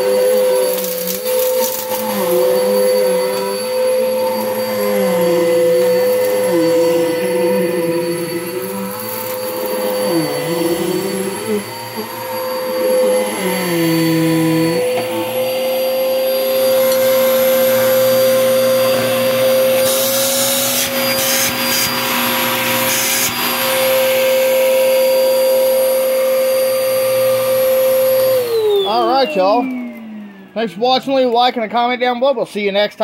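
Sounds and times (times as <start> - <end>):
vacuum cleaner motor whining: 0.0 - 31.5.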